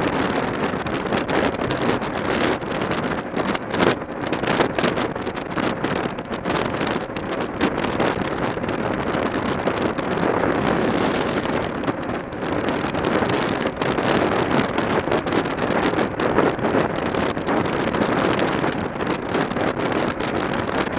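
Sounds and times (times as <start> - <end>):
motorcycle engine and road noise: 0.0 - 20.9
wind buffeting microphone: 0.0 - 20.9.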